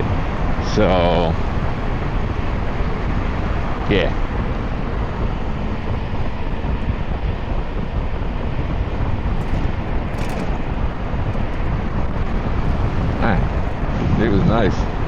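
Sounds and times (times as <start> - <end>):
motorcycle road noise: 0.0 - 15.0
wind rush: 0.0 - 15.0.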